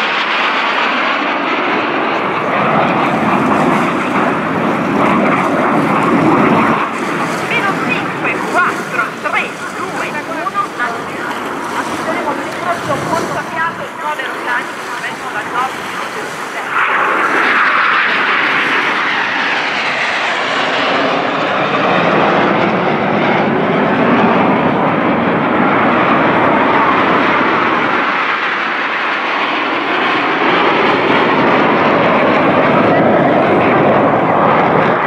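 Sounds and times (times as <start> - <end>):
jet aircraft roar: 0.0 - 35.0.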